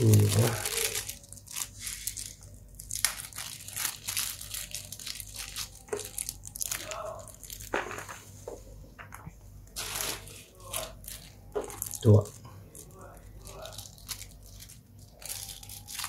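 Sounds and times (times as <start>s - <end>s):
plastic bag crinkling: 0.0s - 8.3s, 9.8s - 16.0s.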